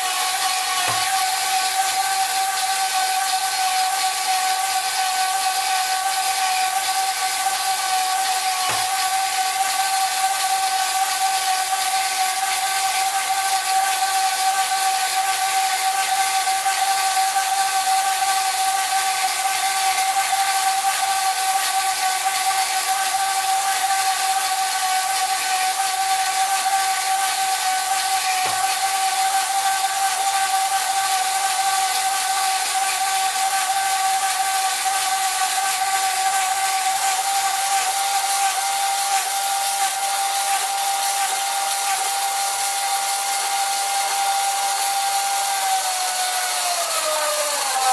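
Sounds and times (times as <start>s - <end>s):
bandsaw cutting steel: 0.0s - 47.9s.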